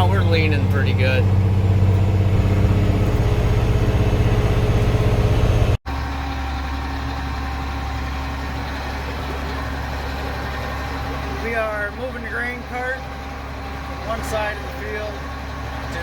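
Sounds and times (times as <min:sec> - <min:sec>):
low engine hum: 0:00.0 - 0:16.0
truck engine running: 0:00.0 - 0:16.0.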